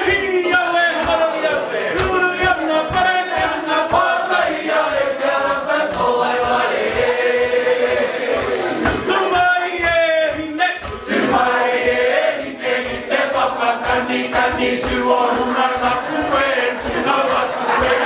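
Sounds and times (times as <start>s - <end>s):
group singing: 0.0s - 18.0s.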